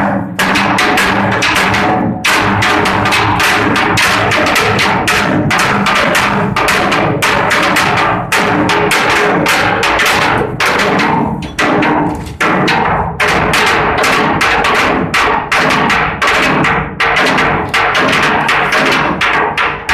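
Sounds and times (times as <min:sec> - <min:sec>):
hammering on steel: 0:00.0 - 0:19.9.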